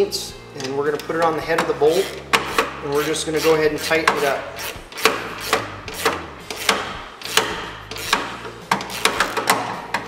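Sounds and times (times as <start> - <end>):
ratchet clicking: 0.9 - 10.0.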